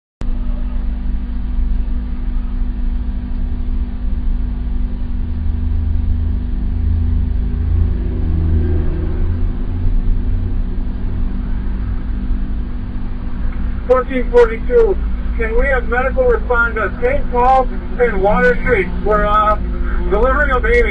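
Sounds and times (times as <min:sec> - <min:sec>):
car engine idling: 0:00.2 - 0:20.9
constant low hum: 0:00.2 - 0:20.9.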